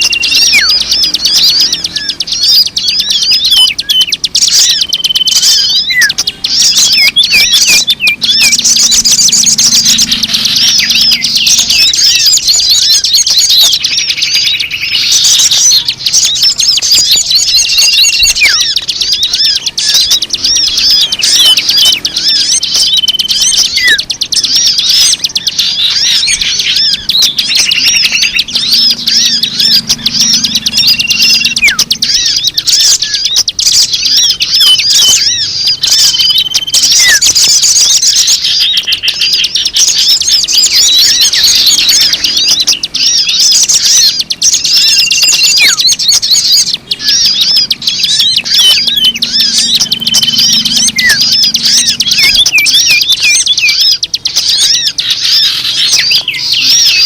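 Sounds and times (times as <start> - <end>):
small birds chirping: 0.0 - 57.0
whistled bird notes: 0.0 - 57.0.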